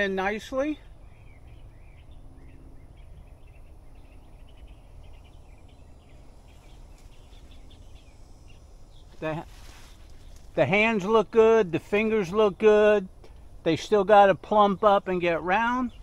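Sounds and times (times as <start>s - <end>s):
low outdoor background rumble: 0.0s - 16.0s
small birds chirping: 0.0s - 16.0s.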